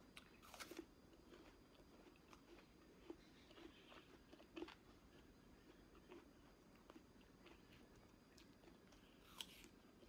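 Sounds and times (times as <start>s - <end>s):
person biting and chewing fruit: 0.1s - 10.0s.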